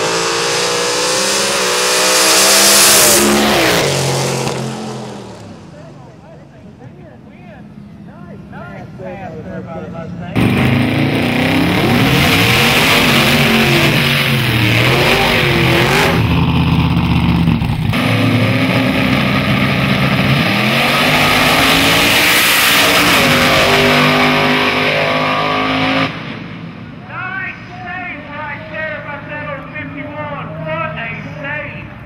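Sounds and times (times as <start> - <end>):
drag racing engines revving: 0.0 - 32.0.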